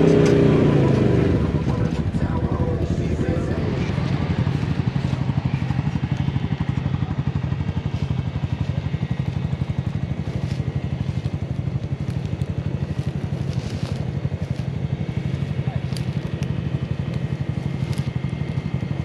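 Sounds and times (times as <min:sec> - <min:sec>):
vehicle engine running steadily: 0:00.0 - 0:19.0.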